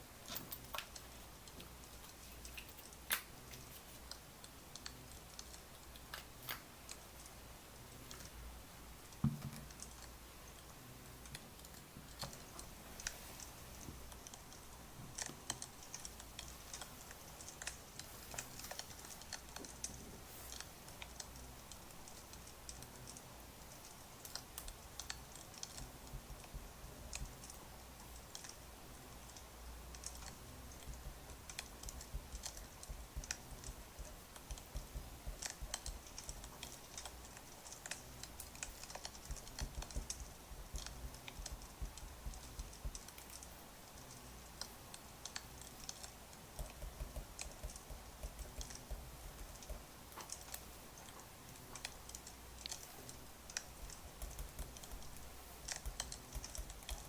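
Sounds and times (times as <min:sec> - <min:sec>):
light clicks and ticks: 0:00.0 - 0:57.0
steady low hum: 0:00.0 - 0:57.0.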